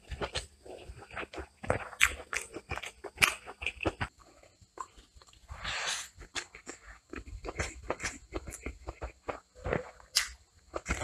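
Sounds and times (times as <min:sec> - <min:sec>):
person chewing with wet smacks: 0:00.0 - 0:05.4, 0:06.2 - 0:11.0
crunch: 0:00.0 - 0:11.0.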